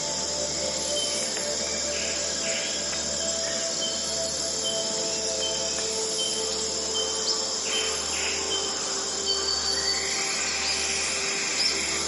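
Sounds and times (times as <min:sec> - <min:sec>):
ambient drone music: 0:00.0 - 0:12.0
insects chirping: 0:00.0 - 0:12.0.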